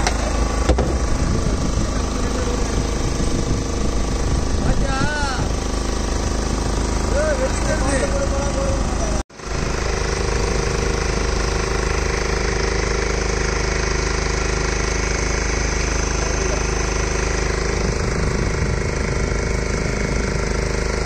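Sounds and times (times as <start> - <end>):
boat engine knocking steadily: 0.0 - 21.0.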